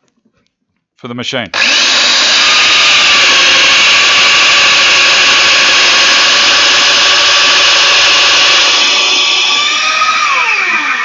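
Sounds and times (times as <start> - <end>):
dust extractor drawing air: 1.6 - 11.0
joiner motor whine: 1.6 - 11.0.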